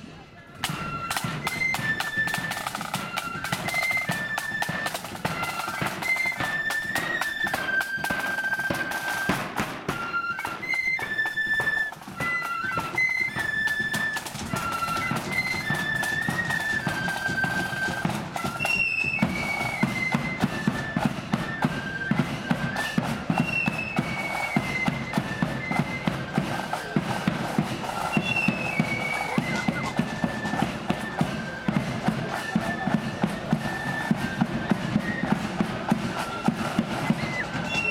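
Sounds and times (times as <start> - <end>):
flutes playing melody: 0.0 - 37.9
snare drums: 0.0 - 37.9.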